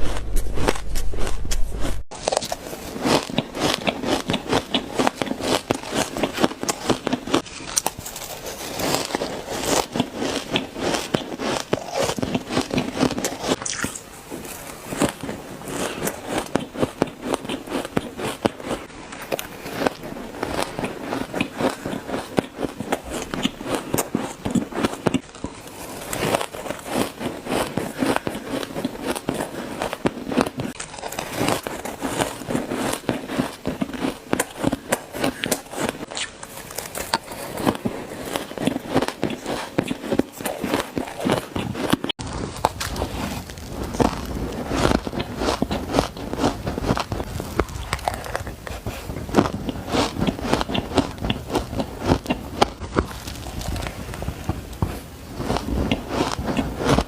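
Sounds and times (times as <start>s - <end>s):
ice being chewed: 0.0s - 57.0s.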